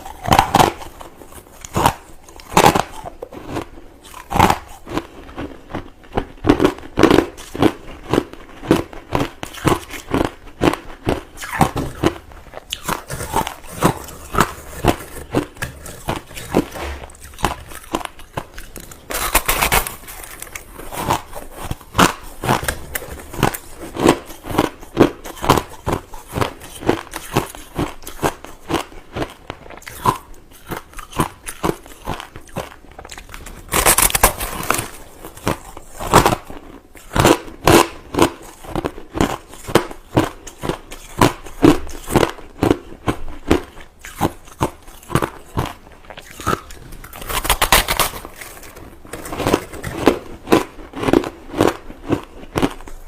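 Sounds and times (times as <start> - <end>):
crushed ice being chewed: 0.0 - 53.0.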